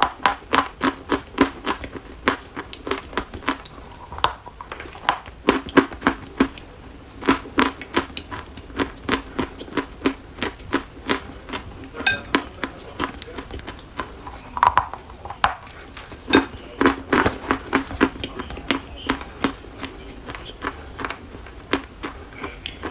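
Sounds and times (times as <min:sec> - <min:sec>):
chalk crunching while chewed: 0:00.0 - 0:22.9.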